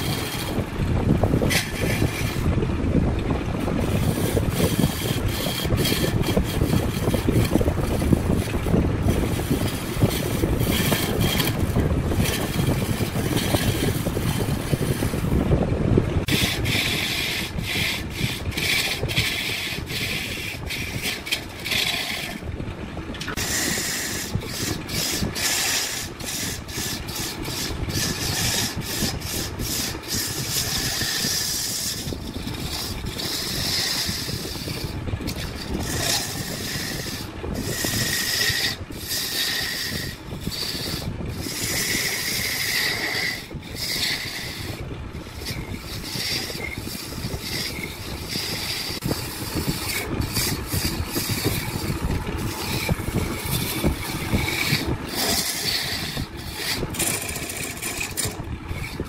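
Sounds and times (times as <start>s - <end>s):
wood being scraped and rasped: 0.0s - 15.6s, 16.2s - 22.5s, 23.1s - 59.0s.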